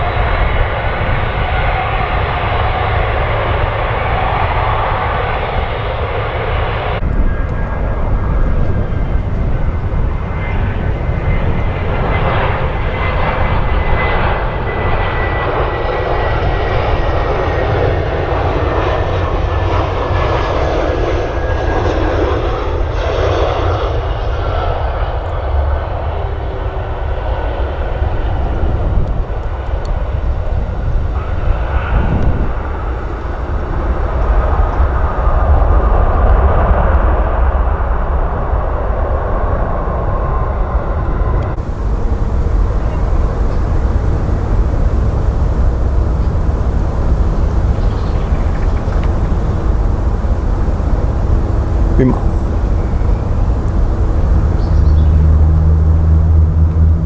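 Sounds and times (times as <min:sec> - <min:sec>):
thin jet whine: 0:00.0 - 0:36.9, 0:39.0 - 0:57.0
jet engines rumbling: 0:00.0 - 0:57.0.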